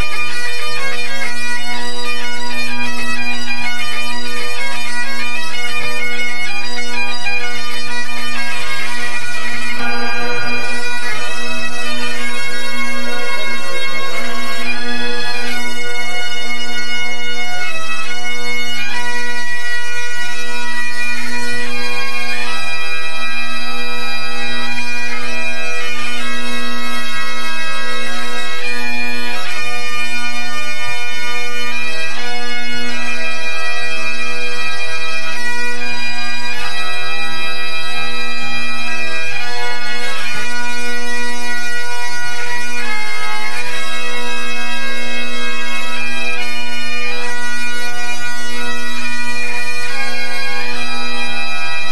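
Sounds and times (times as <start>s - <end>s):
bagpipes playing over drones: 0.0s - 51.9s.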